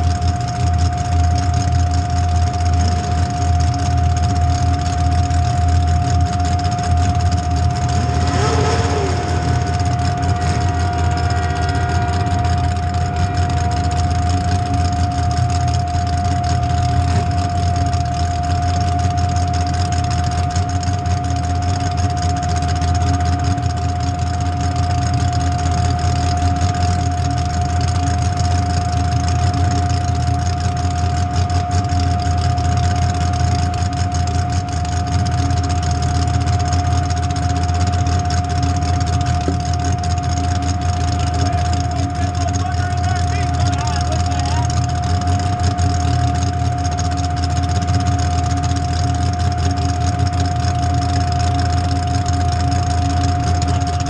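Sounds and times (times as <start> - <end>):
car engine idling: 0.0 - 54.0
high-pitched whine: 0.0 - 54.0.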